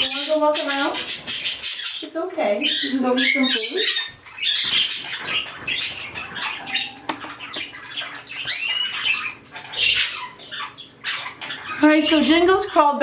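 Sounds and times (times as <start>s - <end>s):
parrots chirping and chattering: 0.0s - 13.0s.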